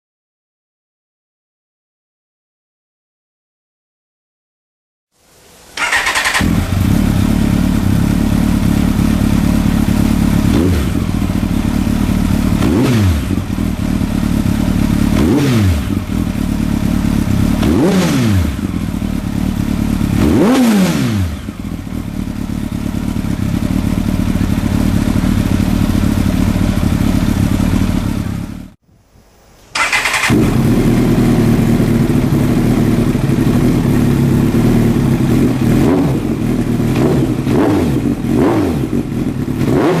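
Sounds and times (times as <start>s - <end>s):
motorcycle engine idling and revving: 5.8s - 28.8s, 29.8s - 40.0s.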